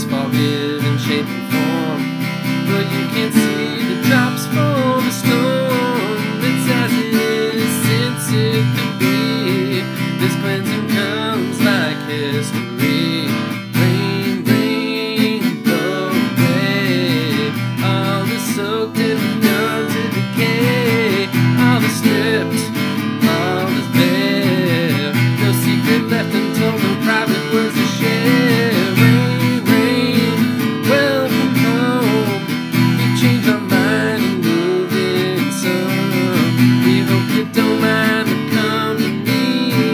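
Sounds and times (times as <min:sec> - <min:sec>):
acoustic guitar strumming chords: 0:00.0 - 0:39.9.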